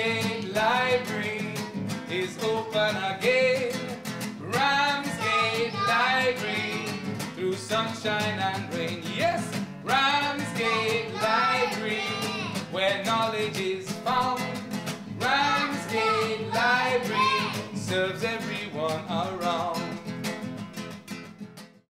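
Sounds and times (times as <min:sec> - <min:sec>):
man singing: 0:00.0 - 0:20.1
strummed nylon-string guitar: 0:00.0 - 0:21.8.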